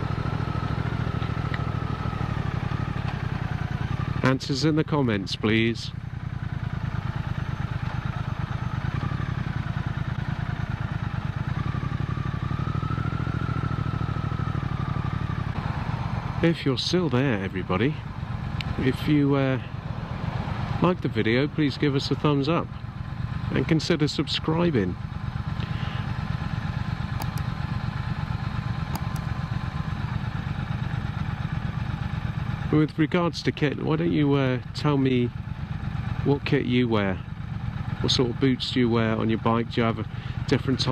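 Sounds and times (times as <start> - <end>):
wind and road noise: 0.0 - 32.8
motorcycle engine cruising: 0.0 - 40.9.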